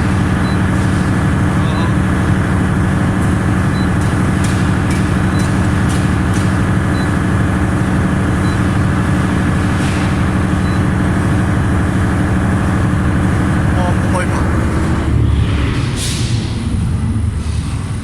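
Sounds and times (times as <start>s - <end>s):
diesel generator engine drone: 0.0s - 18.0s.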